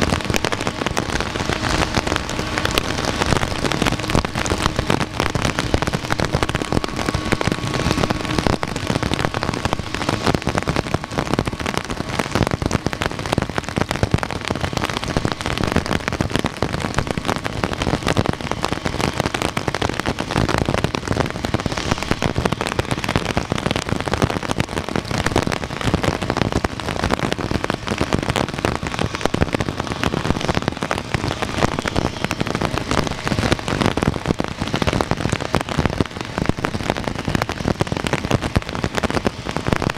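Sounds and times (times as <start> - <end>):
faint steady whine: 0.0 - 39.9
heavy rain falling: 0.0 - 39.9.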